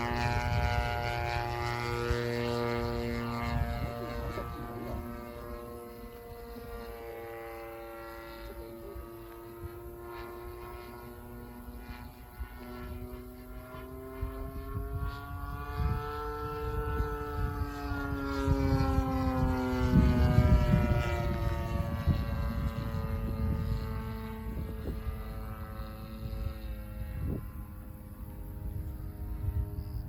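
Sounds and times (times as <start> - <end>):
model airplane engine droning: 0.0 - 30.0.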